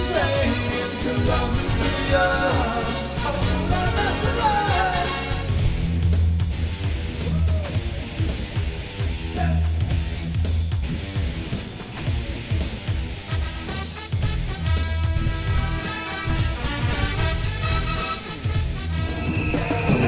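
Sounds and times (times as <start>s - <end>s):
pop-rock music with drum beat: 0.0s - 20.0s.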